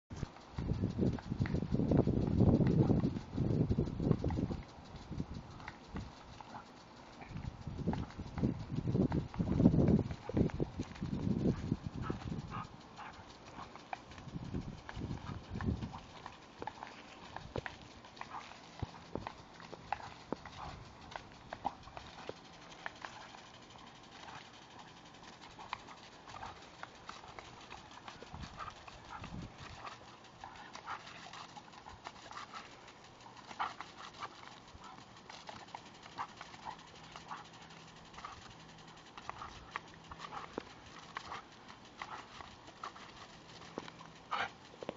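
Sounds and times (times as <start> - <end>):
sprinkler water spray hissing: 0.1 - 44.9.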